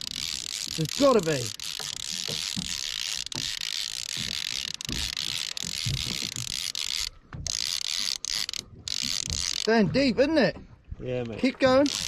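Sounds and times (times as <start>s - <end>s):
fishing reel ratcheting: 0.0s - 9.8s, 11.5s - 12.0s.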